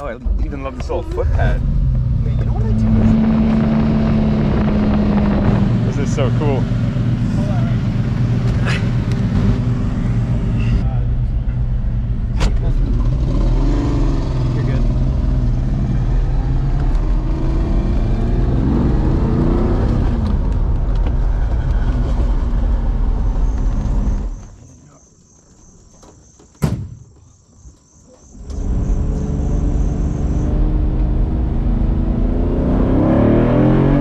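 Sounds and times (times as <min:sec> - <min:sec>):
car engine revving through gears: 0:00.3 - 0:10.8, 0:12.2 - 0:24.5, 0:28.3 - 0:34.0.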